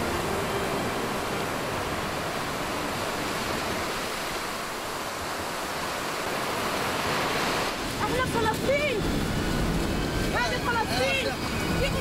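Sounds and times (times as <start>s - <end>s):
surf breaking on rocky shore: 0.0s - 12.0s.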